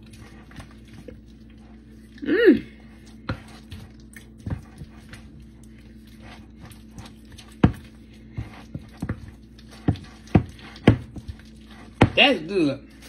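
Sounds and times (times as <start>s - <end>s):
spoon squelching in thick dip: 0.0s - 13.0s.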